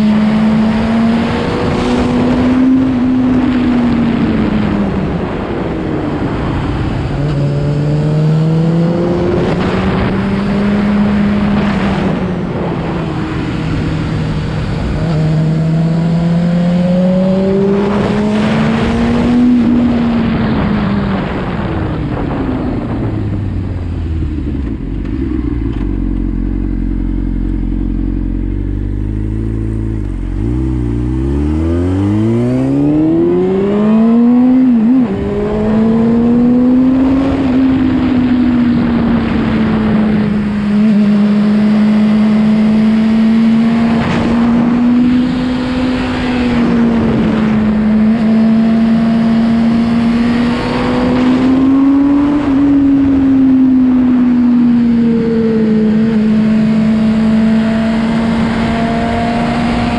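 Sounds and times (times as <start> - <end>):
motorcycle engine: 0.0 - 59.9
rushing wind: 0.0 - 59.9.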